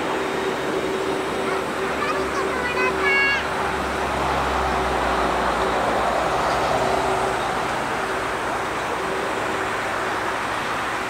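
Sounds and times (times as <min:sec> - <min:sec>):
jet engines rushing and whining: 0:00.0 - 0:11.0.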